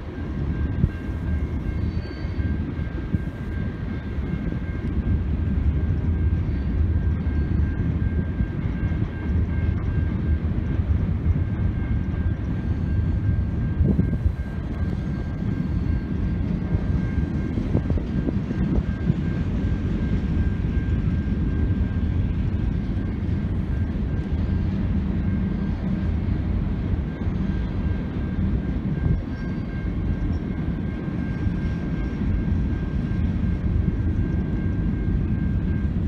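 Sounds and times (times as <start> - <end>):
freight cars rumbling on rails: 0.0 - 36.0.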